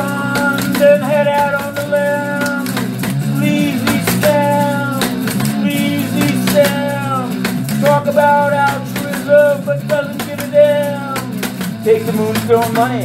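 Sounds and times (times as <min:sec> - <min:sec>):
guitar accompaniment: 0:00.0 - 0:13.0
man singing: 0:00.0 - 0:13.0.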